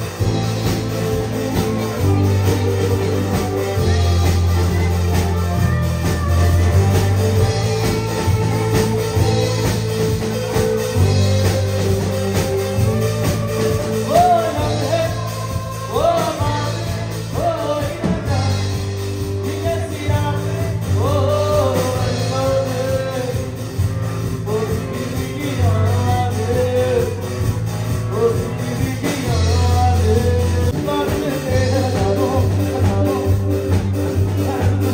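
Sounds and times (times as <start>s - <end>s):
live band playing: 0.0s - 34.9s
man singing into a microphone: 1.7s - 34.9s.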